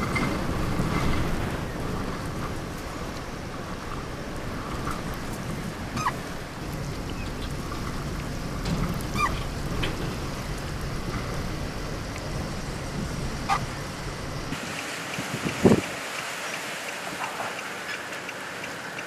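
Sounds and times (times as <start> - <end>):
wind rumble on microphone: 0.0 - 16.2.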